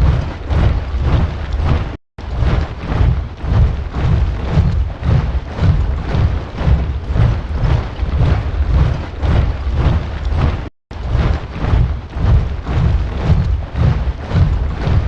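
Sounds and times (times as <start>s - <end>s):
boots marching in step: 2.9s - 15.0s.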